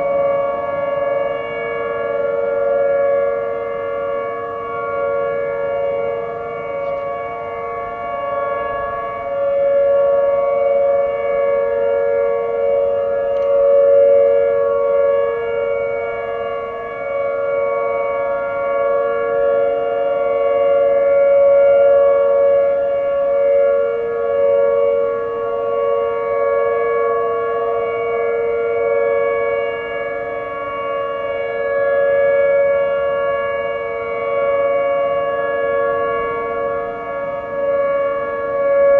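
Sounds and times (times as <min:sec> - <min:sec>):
tornado warning sirens: 0:00.0 - 0:38.9.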